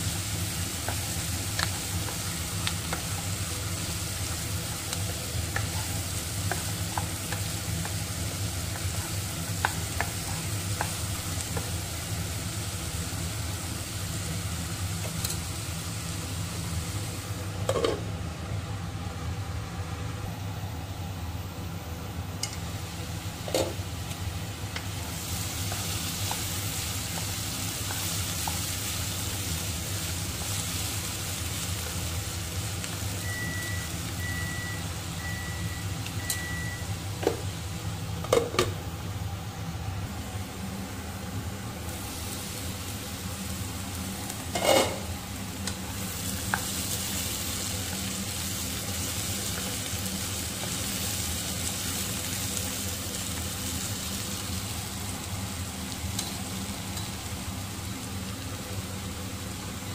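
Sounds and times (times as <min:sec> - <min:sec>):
vegetables sizzling in a pan: 0:00.0 - 0:59.9.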